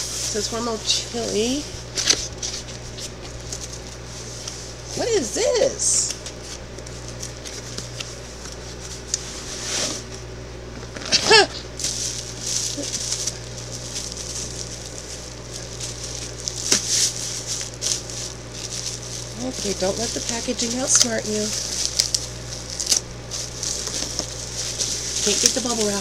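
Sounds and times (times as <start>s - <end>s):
bubble wrap crinkling: 0.0s - 10.2s, 10.8s - 26.0s.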